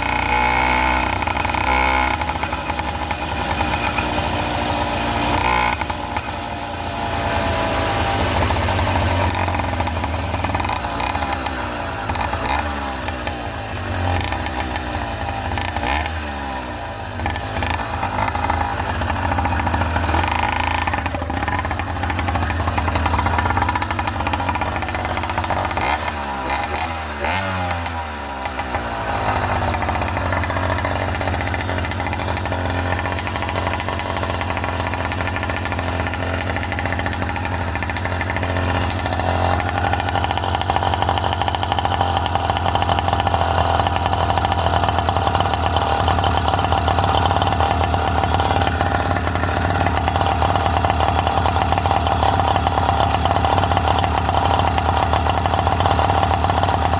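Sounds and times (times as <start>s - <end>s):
small bicycle engine running: 0.0s - 56.9s.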